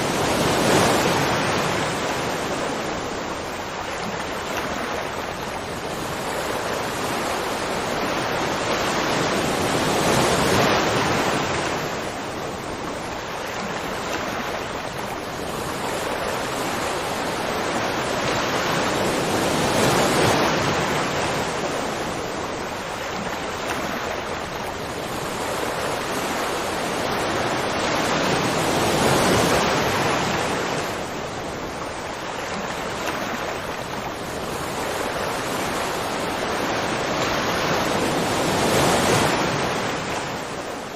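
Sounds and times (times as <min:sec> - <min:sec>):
rushing water roar: 0:00.0 - 0:40.9.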